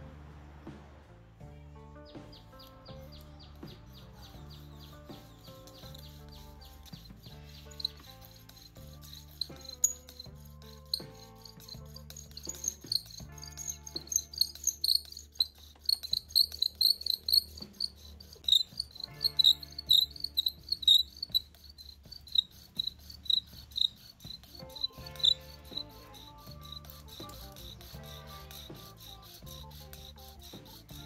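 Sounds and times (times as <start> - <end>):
bow drill squeaking: 2.4 - 31.0.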